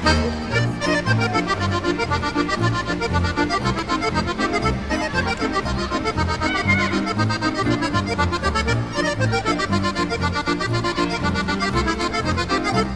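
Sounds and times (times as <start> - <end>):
accordion folk tune: 0.0 - 12.9.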